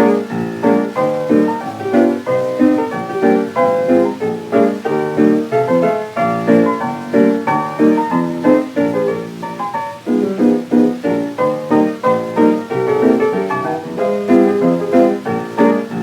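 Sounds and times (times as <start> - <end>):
jazz piano on old record: 0.0 - 16.0.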